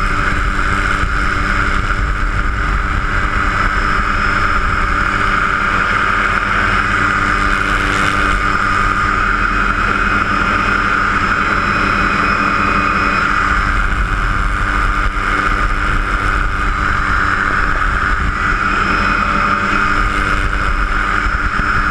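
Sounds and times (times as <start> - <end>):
helicopter engine and rotor drone: 0.0 - 21.9.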